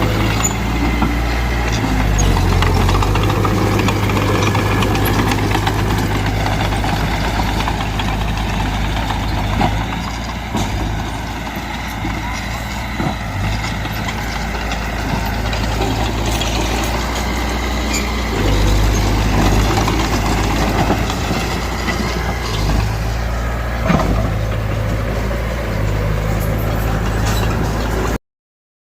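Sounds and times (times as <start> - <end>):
diesel earthmoving machinery running: 0.0 - 28.2.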